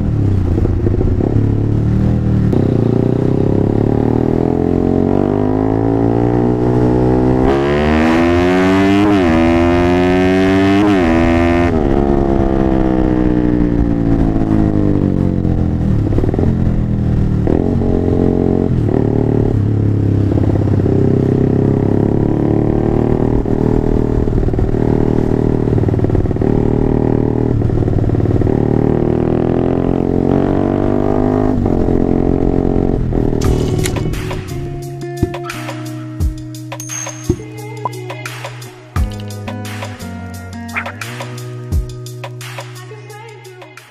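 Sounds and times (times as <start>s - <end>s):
motorcycle engine revving: 0.0s - 36.6s, 40.6s - 42.5s.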